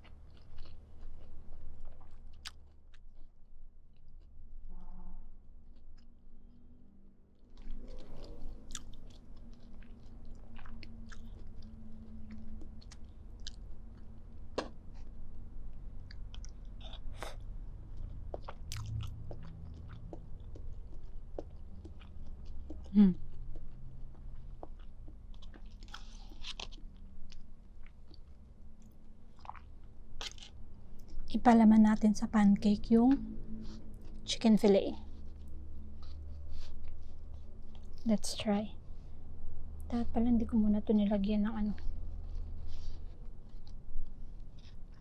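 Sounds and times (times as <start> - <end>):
wet chewing with lip clicks: 0.0 - 3.3, 7.6 - 38.1, 41.8 - 45.0.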